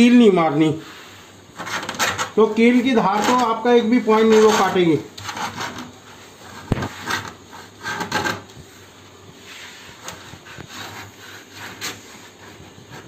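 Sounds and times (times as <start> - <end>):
scraping on laminate sheet: 0.8 - 13.0
scratchy strokes: 0.8 - 13.0.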